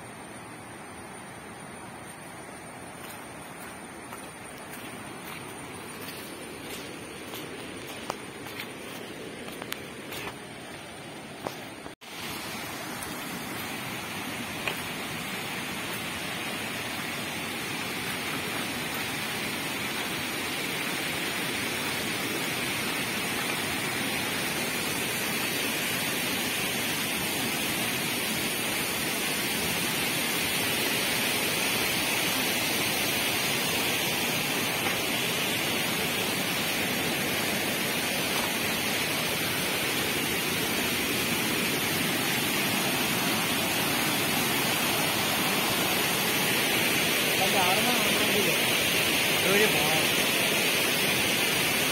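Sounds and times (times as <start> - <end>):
rushing stream water: 0.0 - 51.9.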